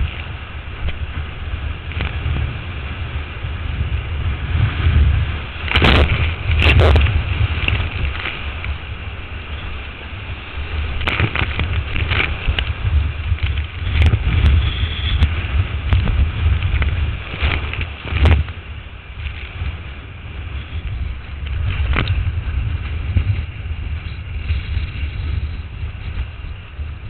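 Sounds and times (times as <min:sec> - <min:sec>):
whitewater rushing and splashing: 0:00.0 - 0:26.8
wind buffeting microphone: 0:00.0 - 0:27.0.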